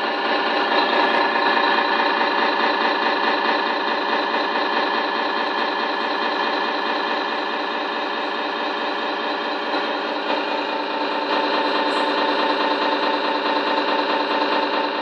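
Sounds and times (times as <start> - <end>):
simulated diesel engine idling: 0.0 - 15.0.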